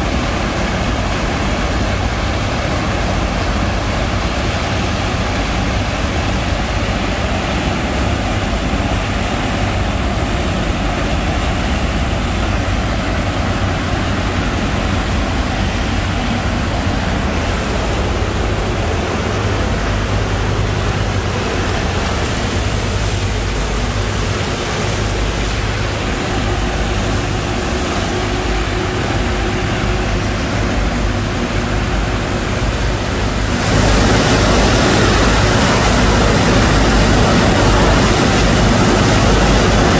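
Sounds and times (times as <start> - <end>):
low engine rumble: 0.0 - 39.9
rush of sandy water: 0.0 - 39.9.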